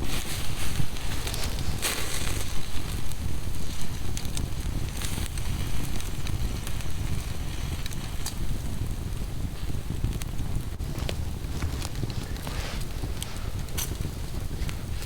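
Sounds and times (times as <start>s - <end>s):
campfire crackling and popping: 0.0s - 15.0s
wind on the microphone: 0.0s - 15.0s.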